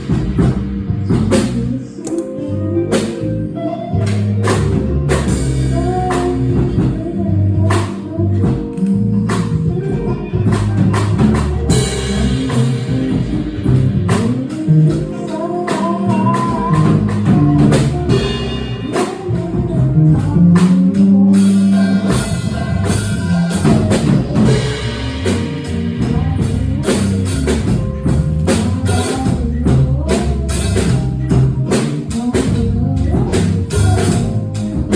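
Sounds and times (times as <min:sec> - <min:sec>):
bass line: 0:00.0 - 0:34.9
drum kit with cymbal hits: 0:00.0 - 0:34.9
jazz melody line: 0:00.0 - 0:34.9.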